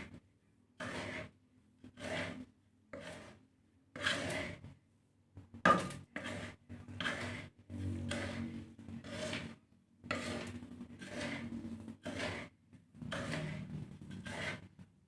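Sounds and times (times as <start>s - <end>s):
spatula scraping seeds in a pan: 0.0s - 0.2s, 0.8s - 4.8s, 5.7s - 14.9s.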